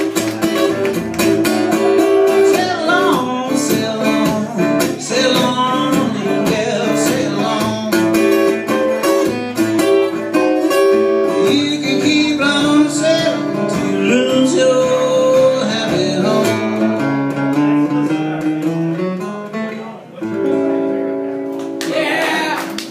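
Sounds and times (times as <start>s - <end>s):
acoustic guitar blues: 0.0s - 22.9s.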